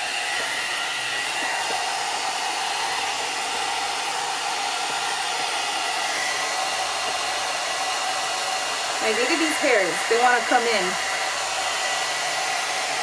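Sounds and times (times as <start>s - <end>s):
hair dryer fan whirring: 0.0s - 13.0s.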